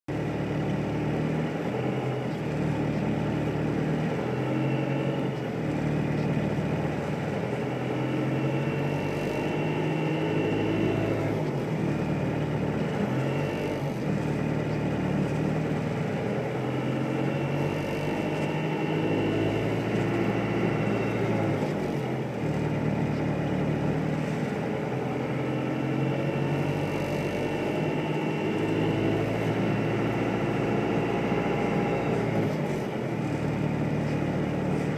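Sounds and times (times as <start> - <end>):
mechanical drone: 0.1 - 34.9.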